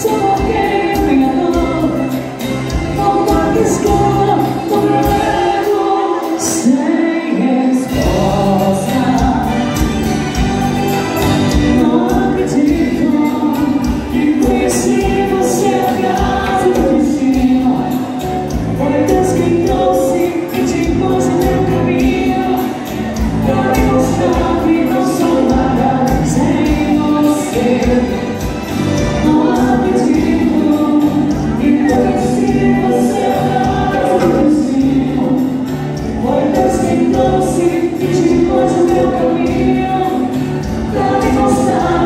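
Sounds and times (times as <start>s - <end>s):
dance music with singing: 0.0s - 42.0s.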